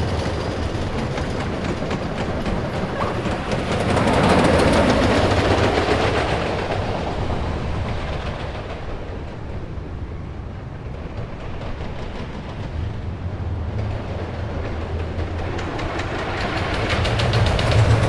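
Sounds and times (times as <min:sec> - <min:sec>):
roller coaster clattering on track: 0:00.0 - 0:18.0.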